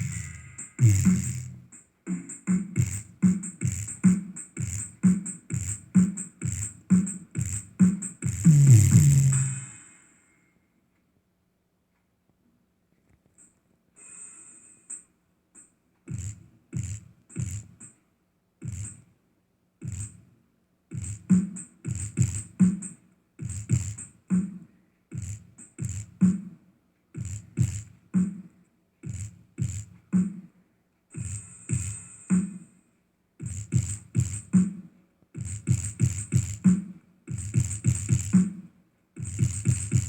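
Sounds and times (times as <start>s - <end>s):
bass-heavy beat with clicks: 0.0s - 9.9s, 14.9s - 18.0s, 18.6s - 19.2s, 19.8s - 32.8s, 33.4s - 40.0s.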